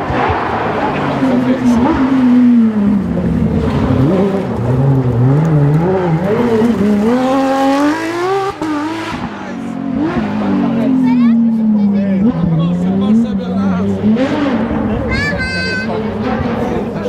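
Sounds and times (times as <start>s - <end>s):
rally car engine revving past: 0.0s - 15.1s.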